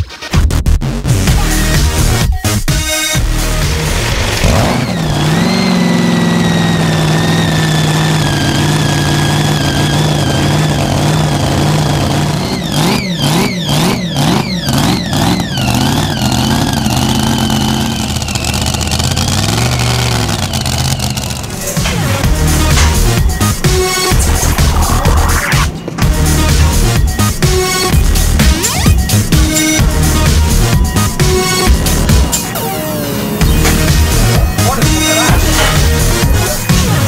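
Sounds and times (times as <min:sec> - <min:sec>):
racing engine revving: 0:02.8 - 0:37.0.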